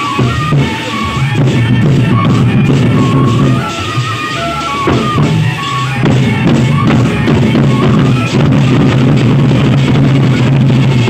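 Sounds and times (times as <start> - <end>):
barrel drums beaten with sticks: 0.0 - 11.0.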